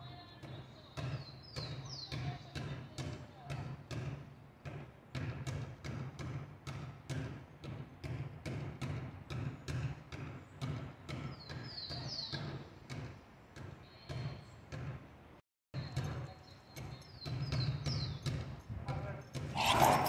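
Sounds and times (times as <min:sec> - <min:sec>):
basketball bouncing on concrete: 0:00.0 - 0:15.1, 0:15.8 - 0:20.0.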